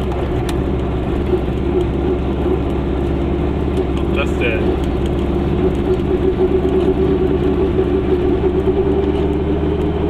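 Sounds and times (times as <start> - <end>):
low rumble: 0.0 - 10.0
two-stroke car engine running: 0.0 - 10.0.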